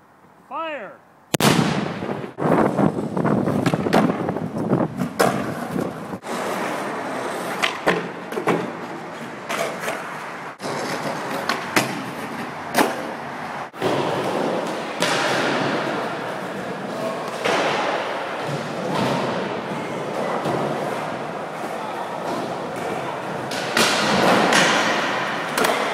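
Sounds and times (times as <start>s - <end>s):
skateboard wheels rolling on concrete: 2.0s - 25.9s
skateboard clacks: 3.5s - 25.9s.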